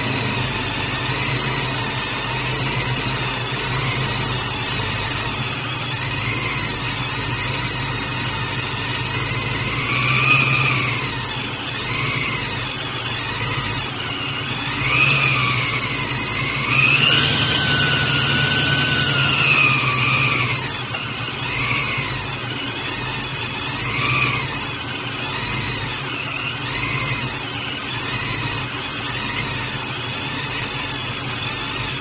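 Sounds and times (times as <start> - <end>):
engine idling and revving: 0.0 - 32.0.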